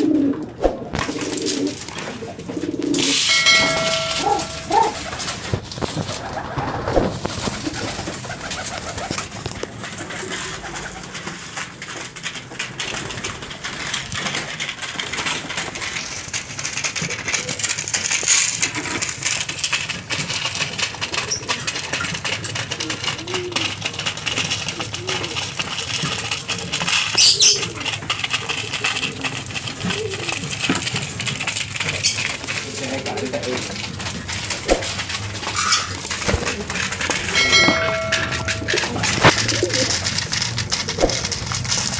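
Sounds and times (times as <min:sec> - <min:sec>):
pigeons cooing: 0:00.0 - 0:11.6, 0:12.8 - 0:41.9
pigeon wings and feet clattering: 0:00.0 - 0:41.9.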